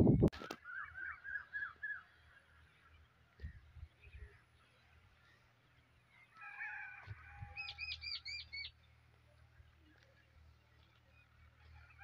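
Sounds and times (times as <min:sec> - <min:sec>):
birds calling: 0:00.5 - 0:12.0.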